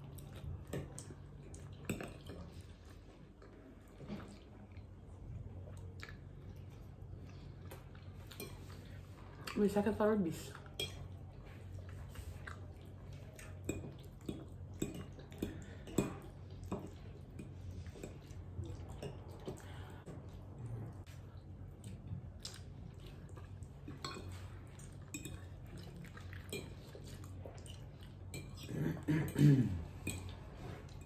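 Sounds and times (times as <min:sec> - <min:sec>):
wet chewing sounds: 0:00.0 - 0:29.1
low steady hum: 0:00.0 - 0:31.0.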